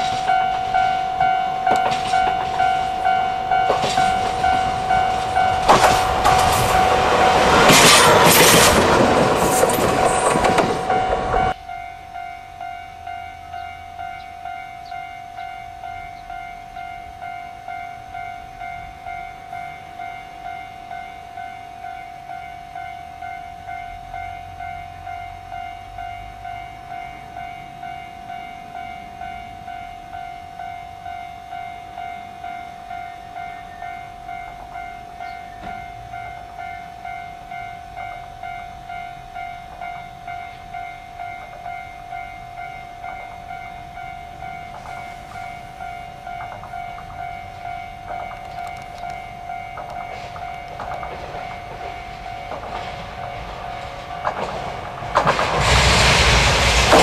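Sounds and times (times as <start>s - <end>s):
level crossing bell ringing: 0.0s - 7.5s, 9.6s - 54.0s
diesel locomotive passing close: 0.0s - 57.0s.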